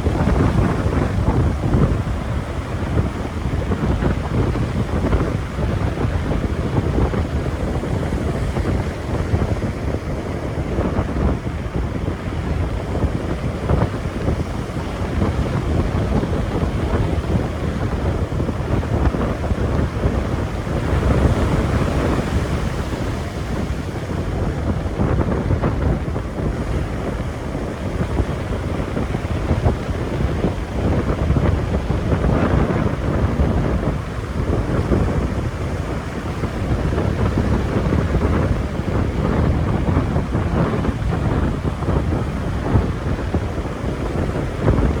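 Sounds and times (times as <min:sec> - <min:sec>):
ocean surf: 0:00.0 - 0:45.0
wind buffeting microphone: 0:00.0 - 0:45.0.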